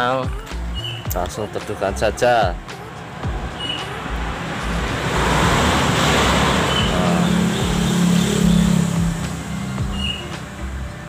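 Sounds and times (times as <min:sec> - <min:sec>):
vehicle passing by: 0:00.6 - 0:11.0.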